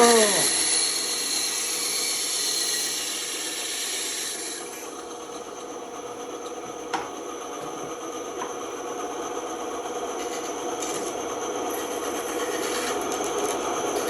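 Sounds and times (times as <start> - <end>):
band saw humming: 0.0 - 14.0.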